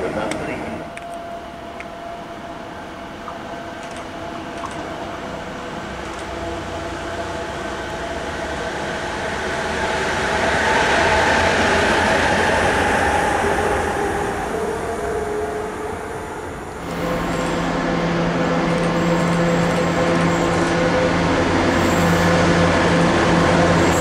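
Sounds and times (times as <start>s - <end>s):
locomotive whining tones: 0.0s - 24.0s
train wheels rumbling on rails: 0.0s - 24.0s.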